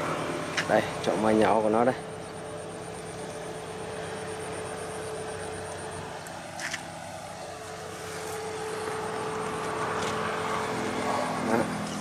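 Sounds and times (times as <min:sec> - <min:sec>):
motor engine drone: 0:00.0 - 0:12.0.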